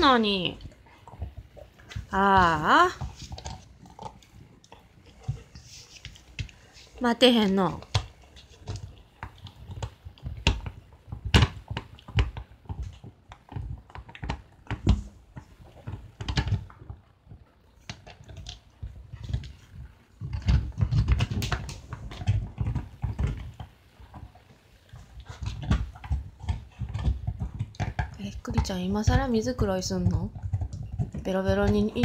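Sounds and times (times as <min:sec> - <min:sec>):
dog gnawing hard chew: 0:00.6 - 0:07.0, 0:07.8 - 0:29.3, 0:30.0 - 0:32.0.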